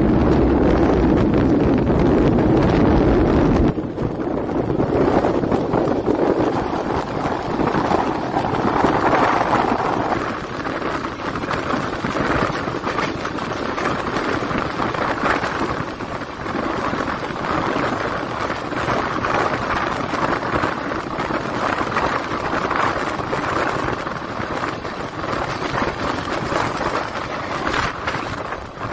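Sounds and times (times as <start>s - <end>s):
passenger train rushing at speed: 0.0s - 28.9s
wind buffeting microphone: 0.0s - 28.9s.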